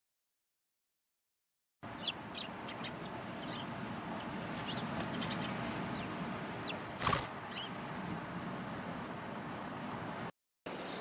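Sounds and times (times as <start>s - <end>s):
sparrows chirping: 1.8s - 11.0s.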